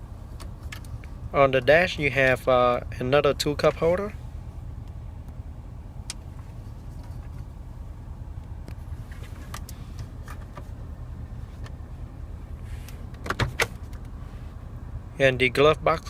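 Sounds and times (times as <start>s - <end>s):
low hum in car cabin: 0.0s - 16.0s.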